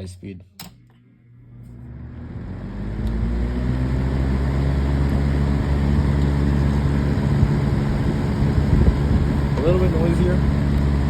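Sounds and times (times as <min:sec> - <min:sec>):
fan motor buzzing: 0:00.6 - 0:11.0
box fan air rush: 0:01.5 - 0:11.0.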